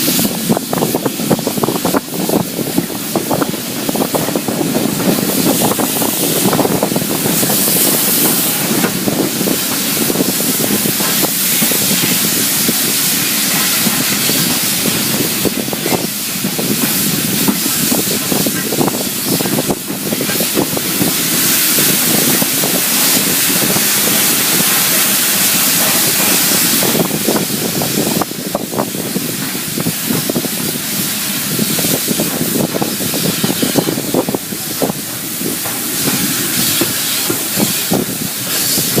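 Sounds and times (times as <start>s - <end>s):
steam train rushing hiss: 0.0s - 39.0s.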